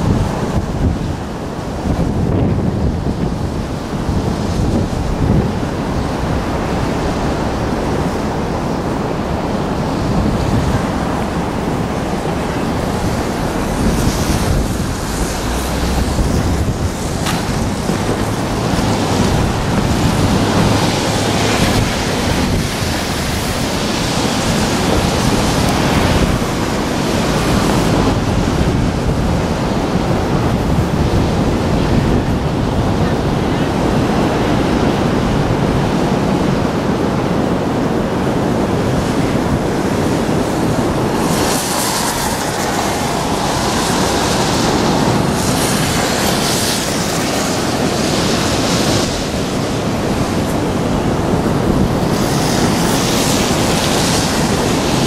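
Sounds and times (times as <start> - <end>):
waterfall roaring: 0.0 - 55.0
wind on microphone: 0.0 - 55.0.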